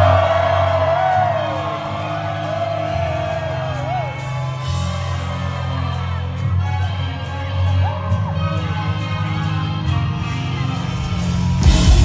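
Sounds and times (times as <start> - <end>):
psychedelic rock band playing: 0.0 - 12.0.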